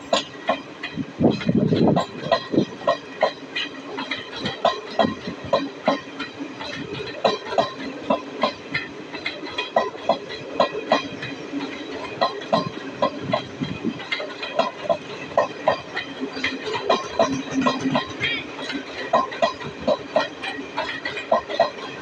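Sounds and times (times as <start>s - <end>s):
train rumble: 0.0s - 22.0s
wheels clicking over rail joints: 0.0s - 22.0s.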